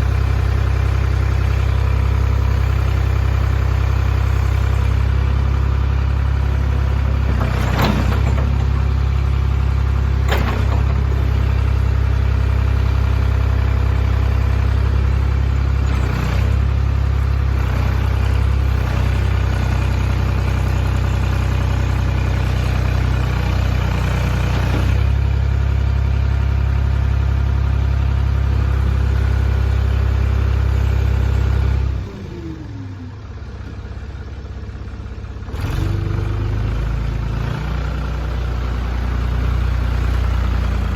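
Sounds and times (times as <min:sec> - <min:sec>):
backhoe diesel engine running: 0:00.0 - 0:40.9.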